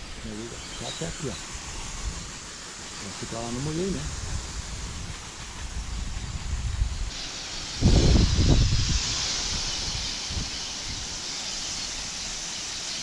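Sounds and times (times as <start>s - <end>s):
garden hose spraying water: 0.0s - 13.0s.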